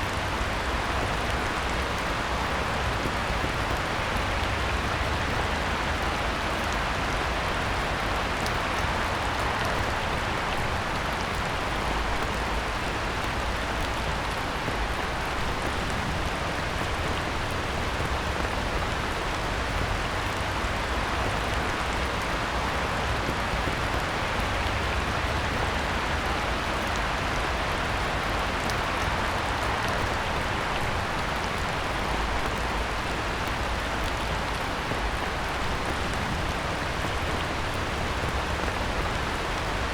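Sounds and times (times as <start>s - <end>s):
heavy rain falling on a pond: 0.0s - 39.9s.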